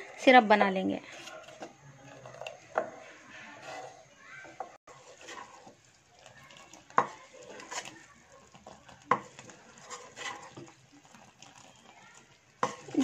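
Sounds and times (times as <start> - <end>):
syrup bubbling in a saucepan: 0.0 - 13.0.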